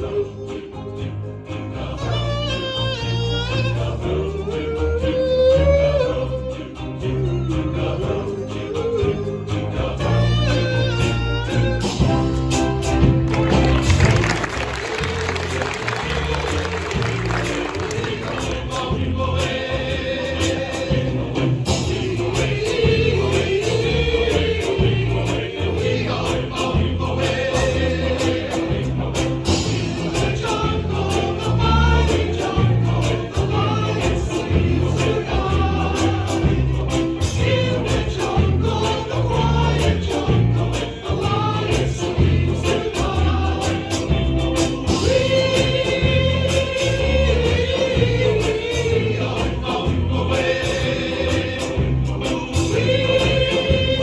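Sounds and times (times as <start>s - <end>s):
men's chorus singing: 0.0s - 54.0s
pulsing bass line: 0.0s - 54.0s.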